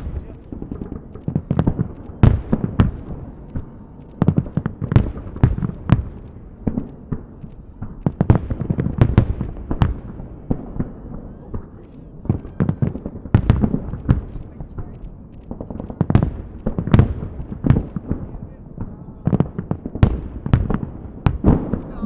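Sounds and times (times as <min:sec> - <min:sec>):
fireworks bangs and booms: 0:00.0 - 0:22.0.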